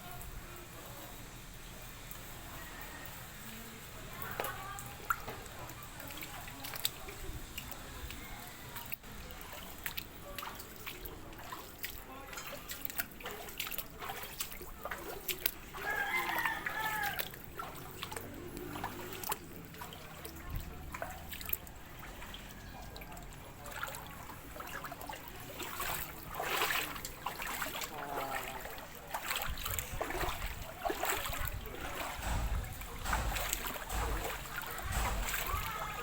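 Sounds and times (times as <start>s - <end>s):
water trickling and splashing: 0.0s - 36.0s
small clicks and drips: 0.1s - 36.0s.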